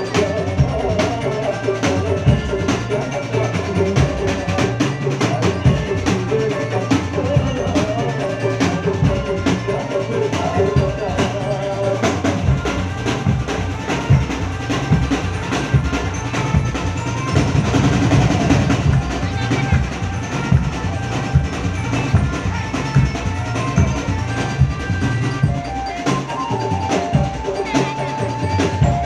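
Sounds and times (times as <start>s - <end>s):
heavy steady drumming: 0.0s - 29.0s
sustained melody: 0.0s - 29.0s.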